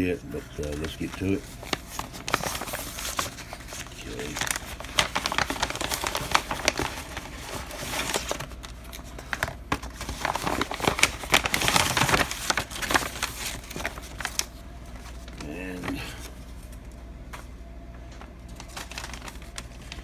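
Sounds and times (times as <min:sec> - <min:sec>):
packaging crinkling and rustling: 0:00.0 - 0:17.0, 0:18.0 - 0:20.0
packaging tearing: 0:00.4 - 0:16.2, 0:18.6 - 0:20.0.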